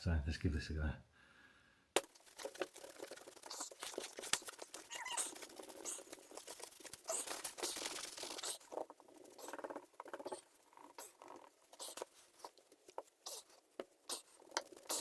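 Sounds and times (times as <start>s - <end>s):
wet wipes rubbing and crinkling: 2.0s - 15.0s.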